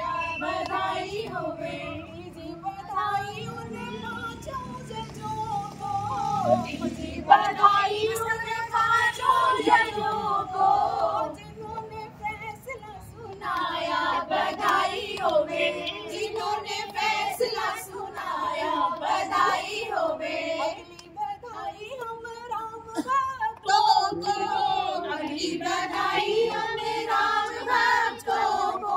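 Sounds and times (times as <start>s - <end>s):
women singing in chorus: 0.0s - 28.9s.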